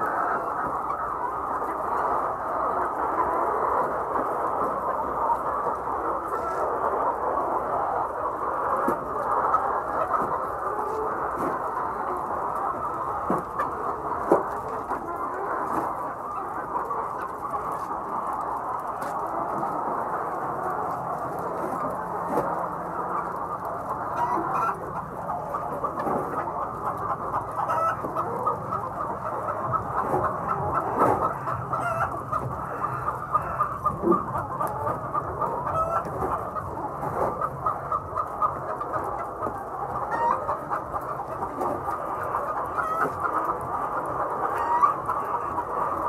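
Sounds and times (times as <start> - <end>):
hens clucking: 0.0 - 46.0.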